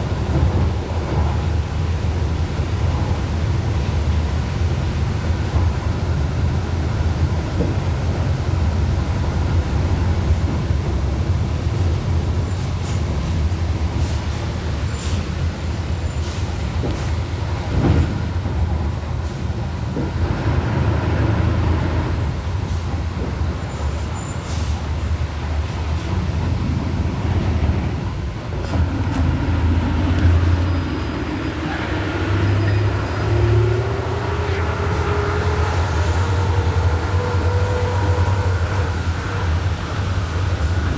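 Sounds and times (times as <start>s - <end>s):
diesel bus engine at low revs: 0.0s - 40.9s.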